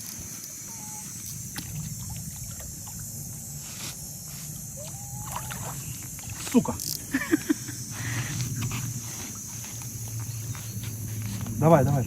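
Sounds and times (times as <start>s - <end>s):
constant high hiss: 0.0s - 12.0s.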